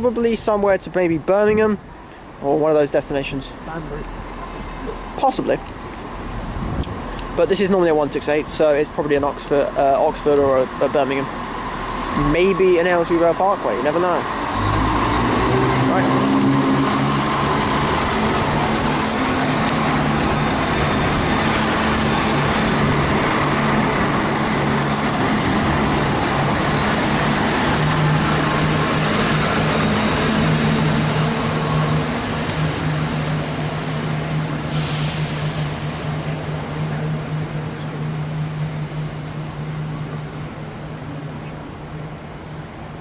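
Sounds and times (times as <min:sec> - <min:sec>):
diesel train engine drone: 0:00.0 - 0:43.0
train wheels rumbling: 0:02.6 - 0:43.0.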